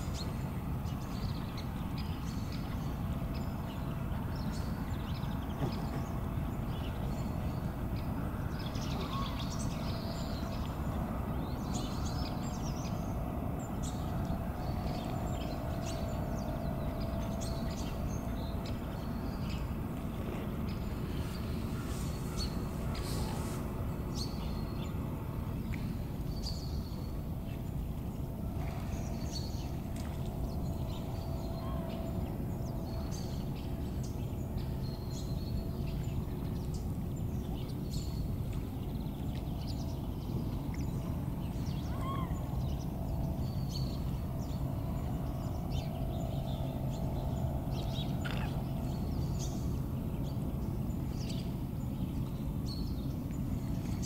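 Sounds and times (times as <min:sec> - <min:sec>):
steady low rumble: 0:00.0 - 0:54.0
birds chirping: 0:08.0 - 0:54.0.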